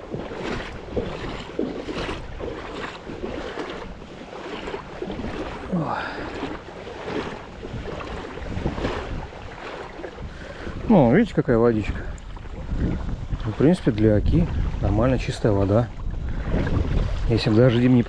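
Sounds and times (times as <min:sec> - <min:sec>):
water splashing while wading: 0:00.0 - 0:18.0
wind noise on microphone: 0:00.0 - 0:18.0.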